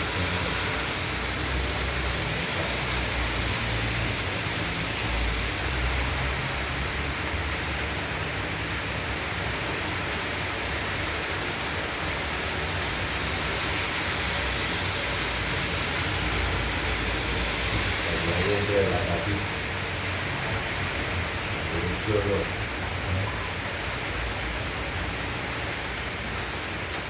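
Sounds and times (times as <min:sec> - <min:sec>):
heavy rain downpour: 0:00.0 - 0:27.0.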